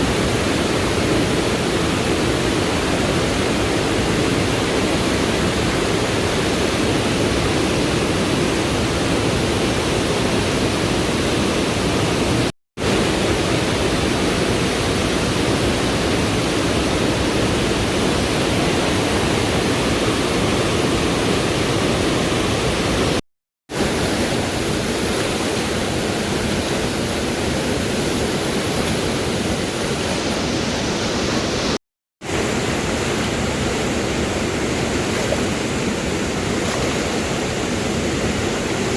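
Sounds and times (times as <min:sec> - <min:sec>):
fast river rushing: 0:00.0 - 0:38.9.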